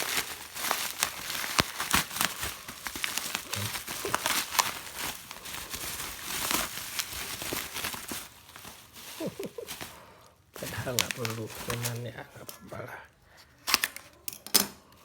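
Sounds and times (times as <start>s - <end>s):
packaging crinkling and tearing: 0.0s - 12.6s.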